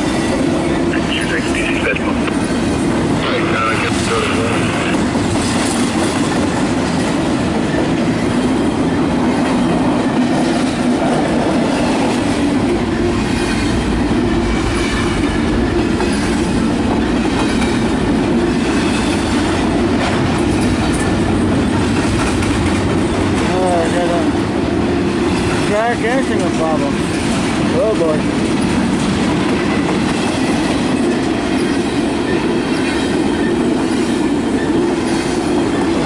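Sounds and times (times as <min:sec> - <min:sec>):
steel wheels rumbling on rails: 0:00.0 - 0:36.0.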